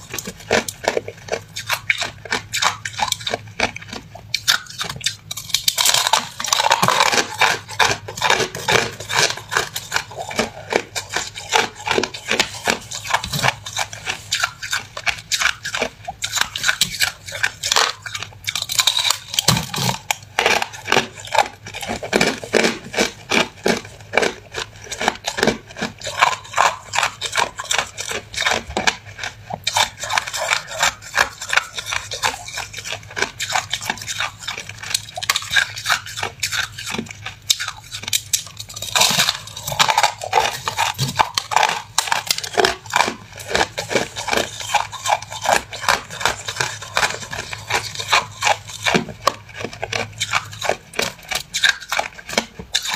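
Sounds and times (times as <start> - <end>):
person crunching ice: 0.0 - 52.9.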